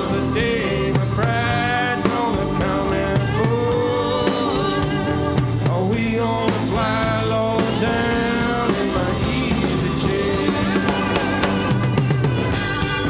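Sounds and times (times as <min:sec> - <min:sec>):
live band playing rock: 0:00.0 - 0:13.0
organ: 0:00.0 - 0:13.0.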